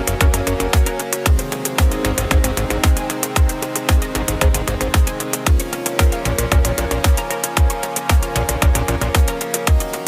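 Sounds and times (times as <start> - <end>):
electronic dance music: 0.0 - 10.0
deep kick drum: 0.1 - 9.9.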